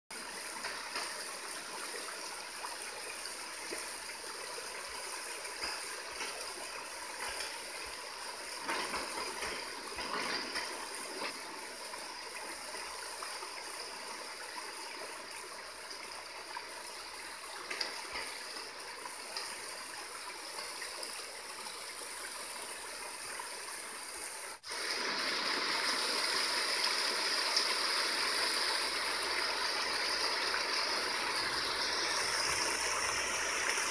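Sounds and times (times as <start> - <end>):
flowing flood water: 0.1 - 33.9.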